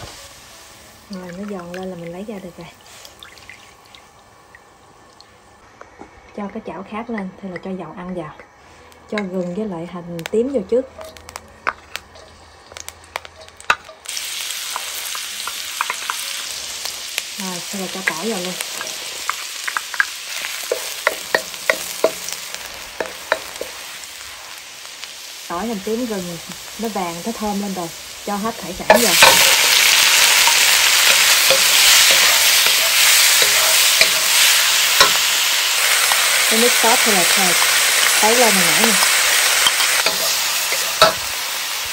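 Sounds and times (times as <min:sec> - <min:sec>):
loud oil sizzling: 0:00.0 - 0:05.7, 0:06.4 - 0:41.9.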